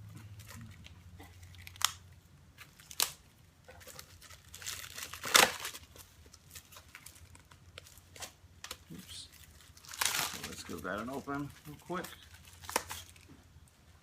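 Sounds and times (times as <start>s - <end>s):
packaging crinkling rustle: 0.1s - 13.9s.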